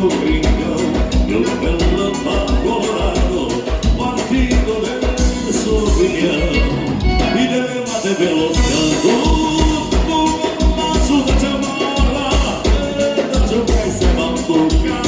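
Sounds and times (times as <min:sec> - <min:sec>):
steady bass beat: 0:00.0 - 0:07.4, 0:08.6 - 0:15.0
accordion: 0:00.0 - 0:15.0.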